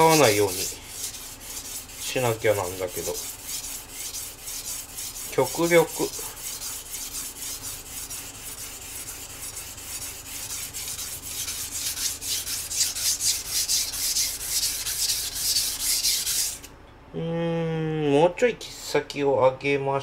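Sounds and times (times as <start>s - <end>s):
knife scraping on whetstone: 0.0s - 16.7s.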